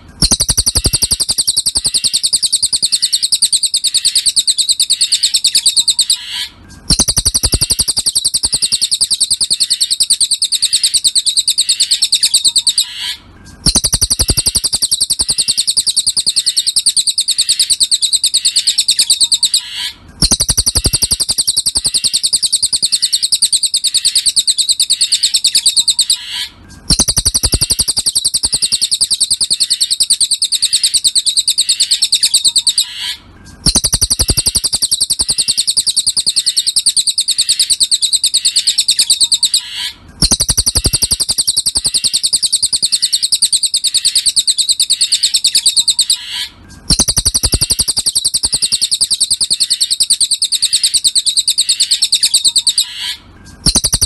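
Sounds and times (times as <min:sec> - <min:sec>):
bird trilling: 0:00.0 - 0:54.0.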